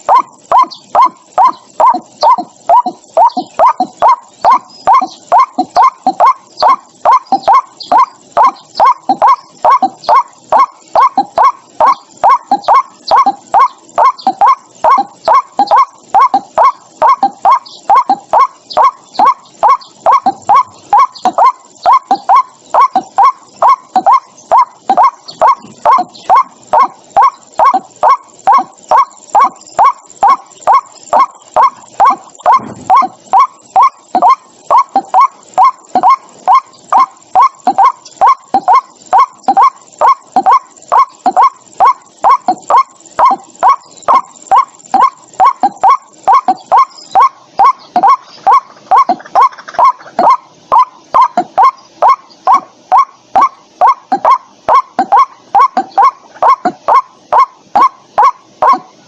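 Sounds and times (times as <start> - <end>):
waterhen calling: 0.0 - 58.9.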